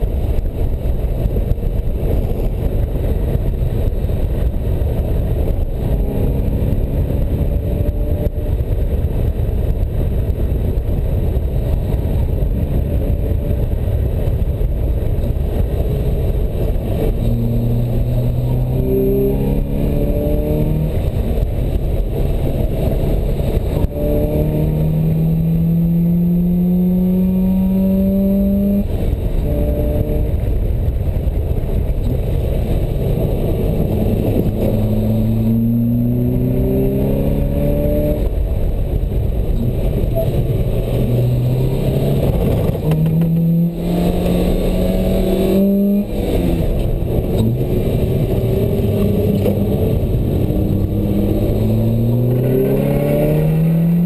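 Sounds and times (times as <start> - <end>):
road and wind noise: 0.0 - 54.0
sports car engine revving: 2.0 - 9.0, 15.6 - 30.6, 32.0 - 38.6, 39.2 - 54.0.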